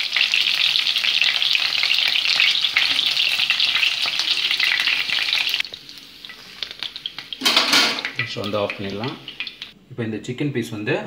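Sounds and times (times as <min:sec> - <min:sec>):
chicken sizzling in hot oil: 0:00.0 - 0:09.8.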